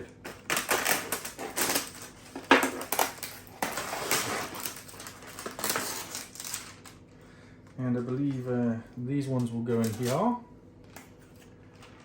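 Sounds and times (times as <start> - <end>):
plastic packaging crinkling: 0.0 - 7.0, 9.4 - 12.0.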